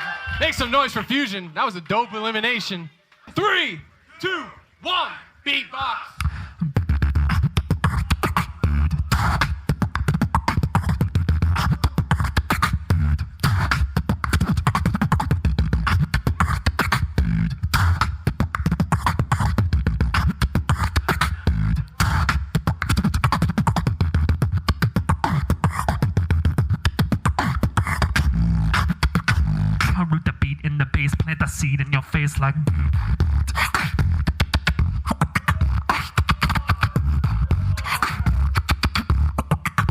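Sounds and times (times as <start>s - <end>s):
beatboxing through microphone: 6.1s - 39.9s
heavy bass line: 6.3s - 39.9s.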